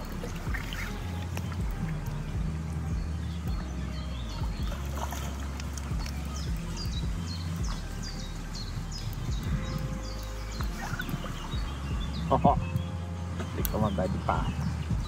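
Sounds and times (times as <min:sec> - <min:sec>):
small bird calling: 0:00.0 - 0:15.0
steady low rumble: 0:00.0 - 0:15.0
water splashing at bank: 0:00.0 - 0:15.0.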